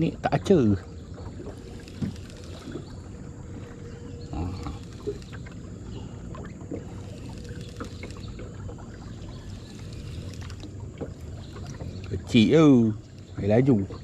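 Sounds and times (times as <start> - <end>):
river water lapping around boat: 0.0 - 14.0
water slosh: 0.0 - 14.0.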